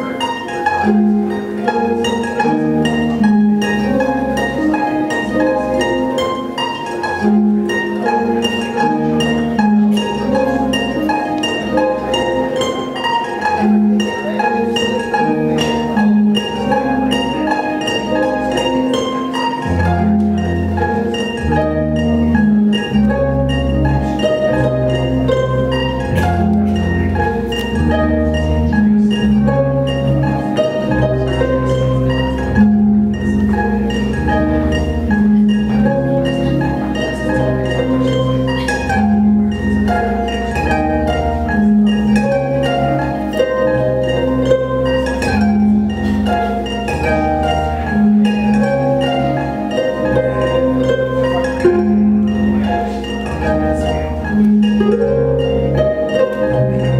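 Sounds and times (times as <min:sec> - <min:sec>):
deep bass notes: 0:00.0 - 0:56.9
looped plucked harp notes: 0:00.0 - 0:56.9.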